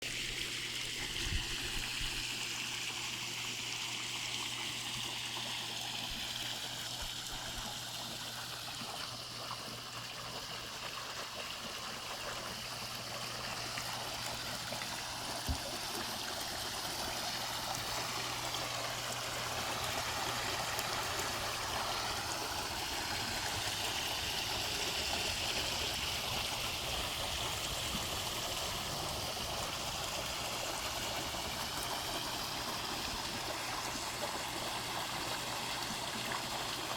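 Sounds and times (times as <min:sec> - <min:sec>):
water splashing from pool waterfall: 0:00.0 - 0:36.9.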